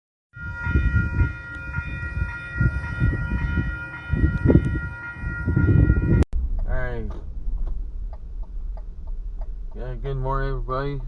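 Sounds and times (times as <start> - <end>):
low rumble: 0.4 - 11.0.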